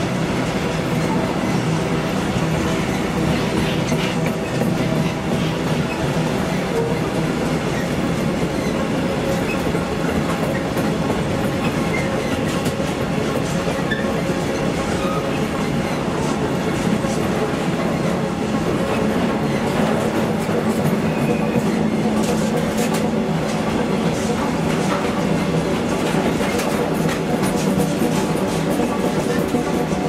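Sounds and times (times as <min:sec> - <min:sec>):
train wheels rolling on rails: 0:00.0 - 0:30.0.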